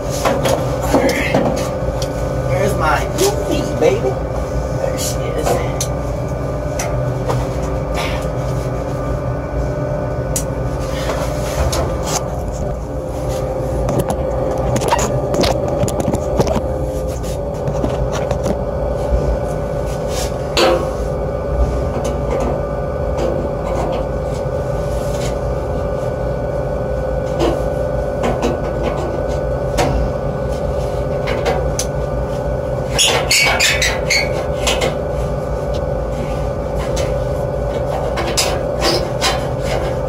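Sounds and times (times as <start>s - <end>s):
heating unit humming: 0.0s - 40.0s.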